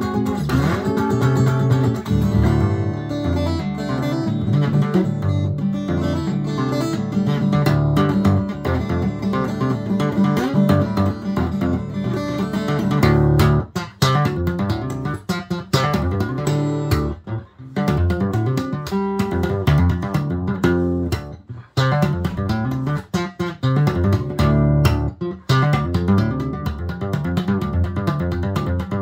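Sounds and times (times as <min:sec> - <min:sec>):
fingerstyle acoustic guitar: 0:00.0 - 0:29.0
hand slapping guitar: 0:00.0 - 0:29.0.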